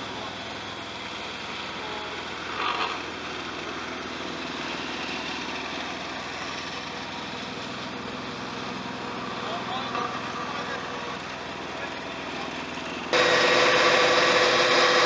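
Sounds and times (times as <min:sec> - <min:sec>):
paving machinery running: 0:00.0 - 0:15.0
road roller diesel engine: 0:00.0 - 0:15.0.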